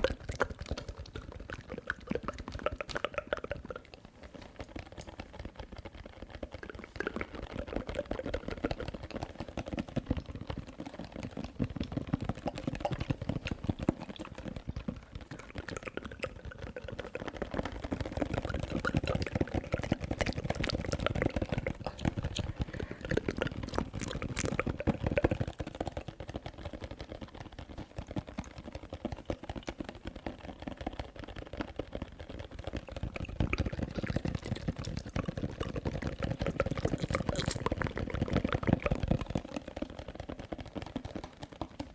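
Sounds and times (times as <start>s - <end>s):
wet mouth sounds: 0.0s - 40.2s.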